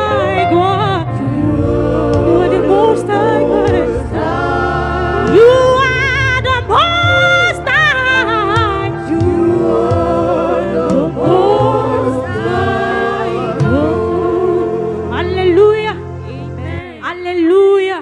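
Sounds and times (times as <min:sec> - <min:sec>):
women singing gospel in harmony: 0:00.0 - 0:17.0
instrumental backing: 0:00.0 - 0:18.0.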